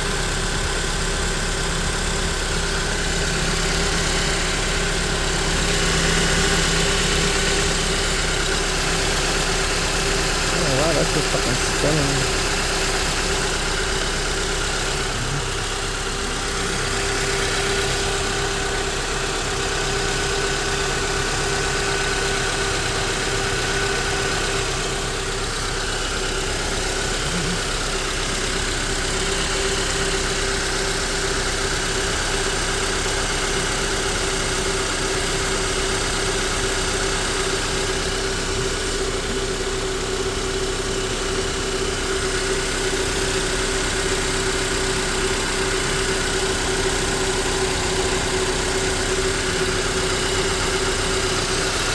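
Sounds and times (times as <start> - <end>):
car engine idling: 0.0 - 51.9
power steering pump whine: 0.0 - 51.9.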